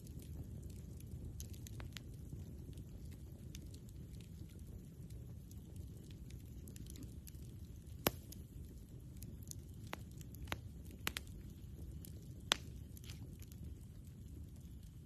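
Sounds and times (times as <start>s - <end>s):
campfire crackling and popping: 0.0s - 15.0s
low steady rumble: 0.0s - 15.0s.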